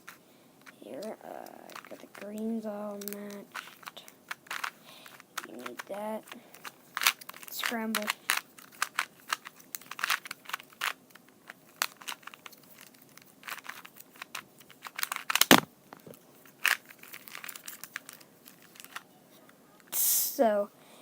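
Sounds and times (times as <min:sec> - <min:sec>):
puzzle cube clicking: 0:00.1 - 0:19.0.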